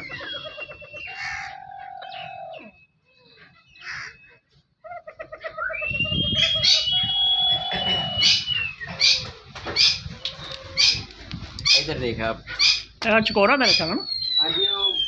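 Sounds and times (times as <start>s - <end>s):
bird chirps: 0.0s - 4.6s, 5.5s - 15.0s
birds whistling: 0.0s - 15.0s.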